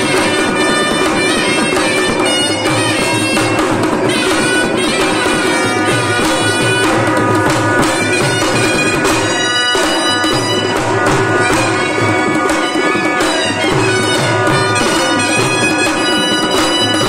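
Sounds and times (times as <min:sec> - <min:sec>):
barrel drum beaten with stick: 0:00.0 - 0:17.0
reedy wind instruments melody: 0:00.0 - 0:17.0.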